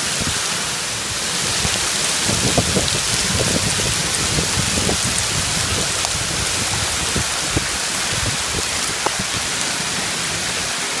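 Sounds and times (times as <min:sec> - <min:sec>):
torrential rain on pavement: 0:00.0 - 0:11.0
hailstones ticking: 0:01.1 - 0:10.7.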